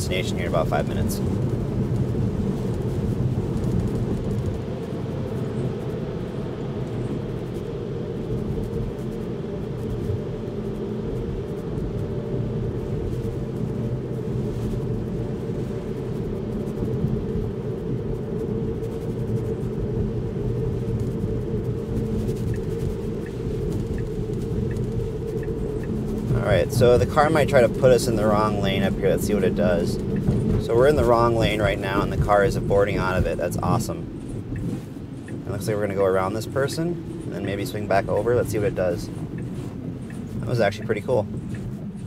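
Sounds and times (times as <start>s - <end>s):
road and tyre noise on wet road: 0.0s - 42.0s.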